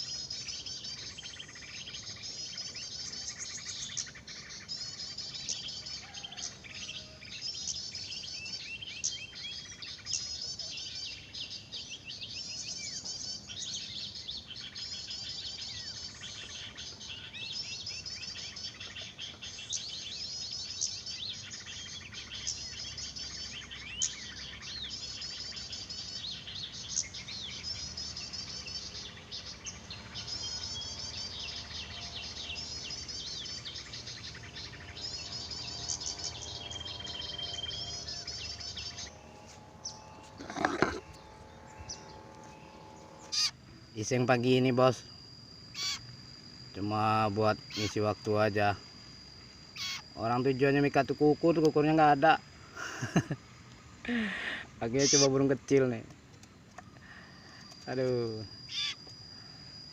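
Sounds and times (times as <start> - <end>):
faint insect buzz: 0.0 - 59.9
songbirds chirping: 0.0 - 59.9.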